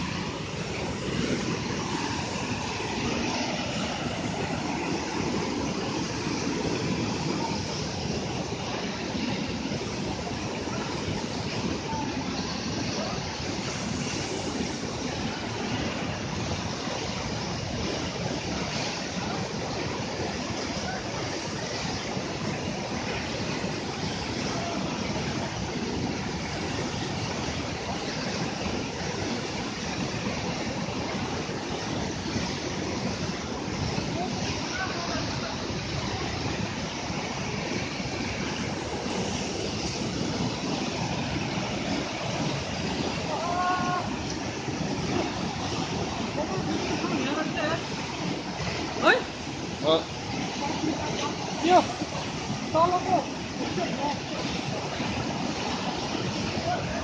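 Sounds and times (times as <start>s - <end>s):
river rushing over boulders: 0.0s - 57.0s.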